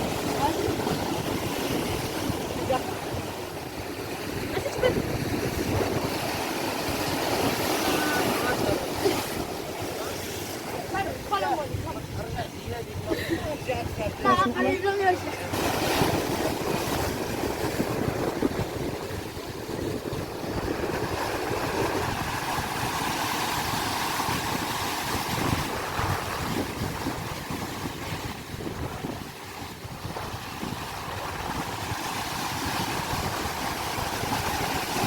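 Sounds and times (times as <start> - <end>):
sea waves washing: 0.0 - 35.0
wind buffeting microphone: 0.0 - 35.0.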